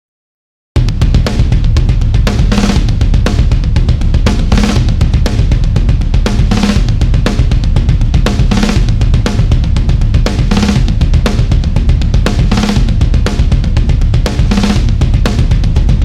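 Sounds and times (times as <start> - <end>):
heavy accented drum hits: 0.8 - 16.0
rock drum groove: 0.8 - 16.0.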